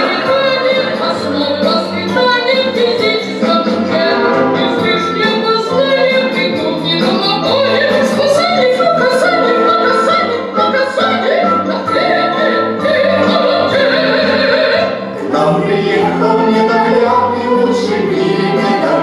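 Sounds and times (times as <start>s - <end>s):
operatic singing: 0.0s - 19.0s
orchestral backing track: 0.0s - 19.0s.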